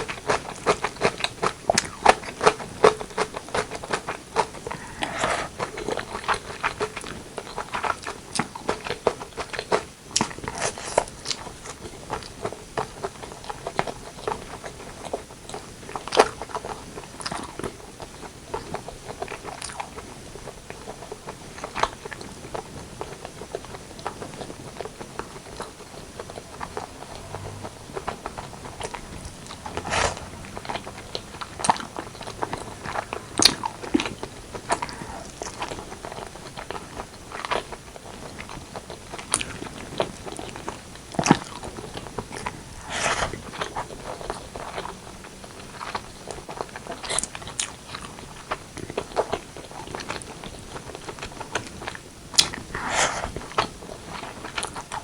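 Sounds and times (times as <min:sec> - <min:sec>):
close chewing: 0:00.0 - 0:55.0.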